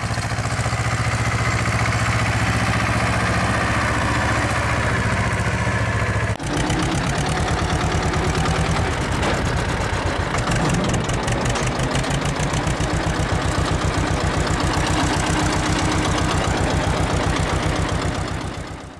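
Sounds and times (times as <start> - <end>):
tractor diesel engine chugging: 0.0 - 18.9.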